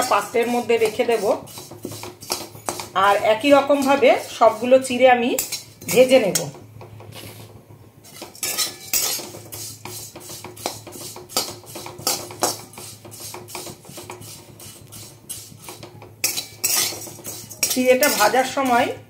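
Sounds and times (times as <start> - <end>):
metal spatula scraping pan: 0.0 - 19.0.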